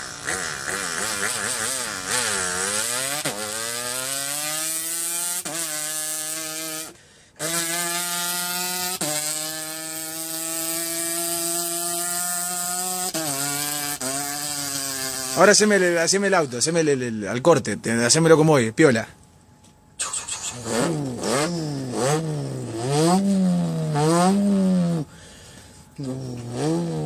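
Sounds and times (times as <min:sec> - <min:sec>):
man imitating a revving engine: 0:00.0 - 0:16.0, 0:20.0 - 0:25.2, 0:26.0 - 0:27.0.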